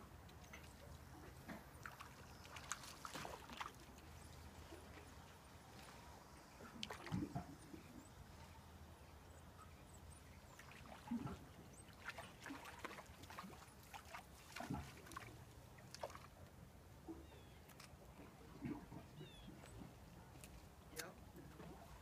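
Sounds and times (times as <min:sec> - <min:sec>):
calm sea water washing: 0:00.0 - 0:22.0.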